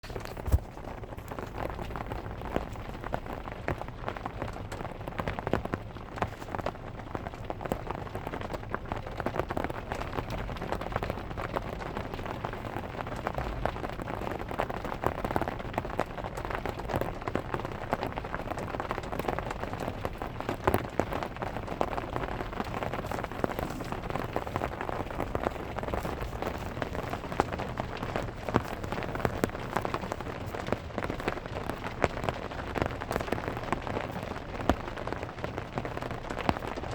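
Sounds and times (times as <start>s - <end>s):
rain drumming on car roof: 0.0s - 36.9s.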